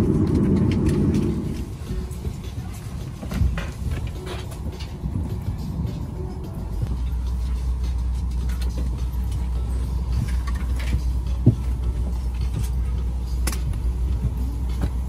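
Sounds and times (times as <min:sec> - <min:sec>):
airplane cabin low rumble: 0:00.0 - 0:15.0.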